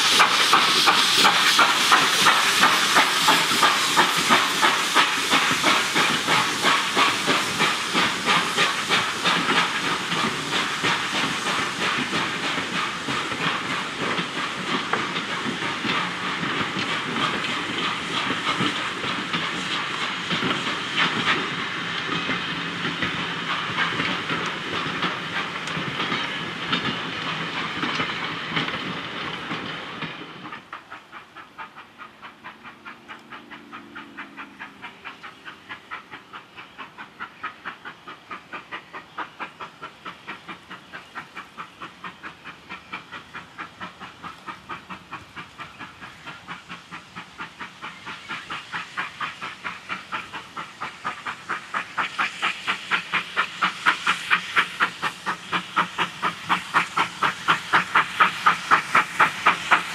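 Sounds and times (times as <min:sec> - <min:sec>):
steam locomotive chuffing: 0:00.0 - 0:59.9
train coaches rumbling past: 0:00.0 - 0:59.9.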